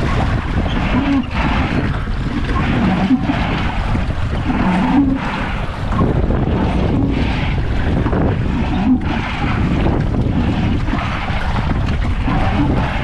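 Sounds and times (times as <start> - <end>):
choppy water lapping: 0.0 - 13.0
wind buffeting microphone: 0.0 - 13.0.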